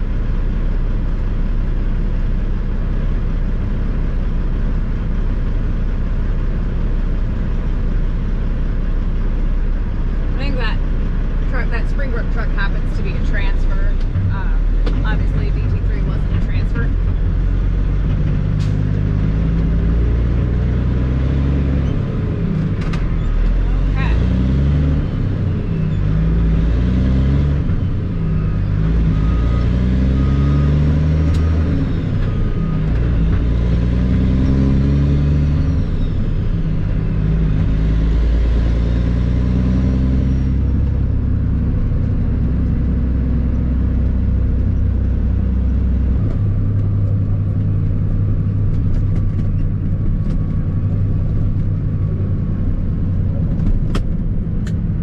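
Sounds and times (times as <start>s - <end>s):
diesel truck engine shifting gears: 0.0s - 55.0s.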